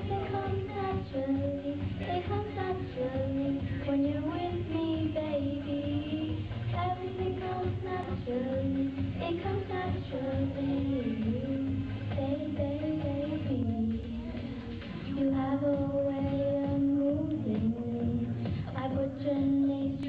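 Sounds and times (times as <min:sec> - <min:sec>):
backing track music: 0:00.0 - 0:20.0
girls singing pop song: 0:00.0 - 0:20.0.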